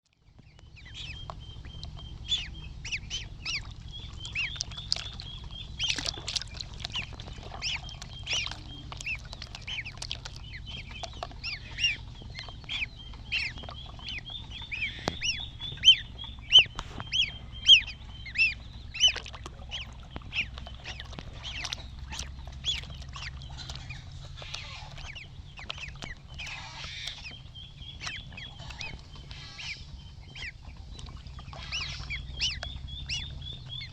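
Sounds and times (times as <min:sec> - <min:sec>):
ducklings peeping: 0:00.1 - 0:33.9
low steady hum: 0:00.1 - 0:33.9.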